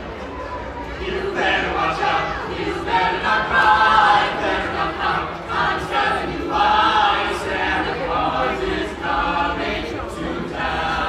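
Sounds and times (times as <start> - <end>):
choir singing a holiday song: 0.8 - 11.0.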